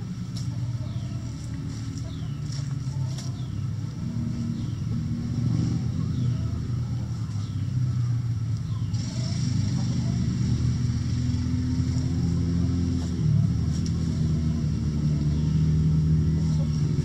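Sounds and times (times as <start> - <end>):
low engine-like rumble: 0.0 - 17.0.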